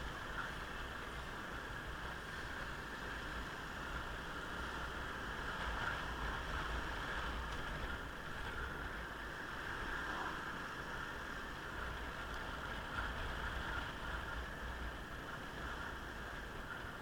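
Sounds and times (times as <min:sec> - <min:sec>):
motorcycle road noise rumble: 0:00.0 - 0:17.0.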